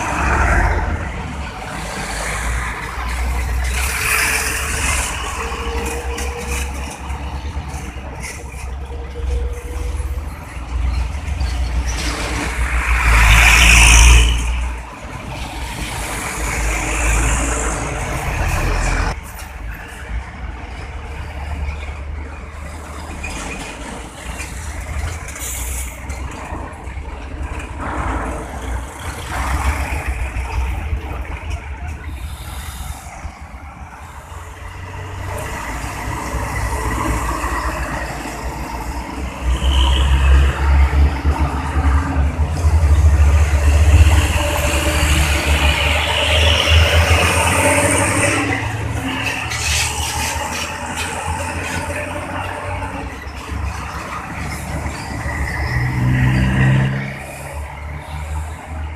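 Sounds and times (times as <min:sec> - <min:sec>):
heavy trucks passing: 0:00.0 - 0:58.9.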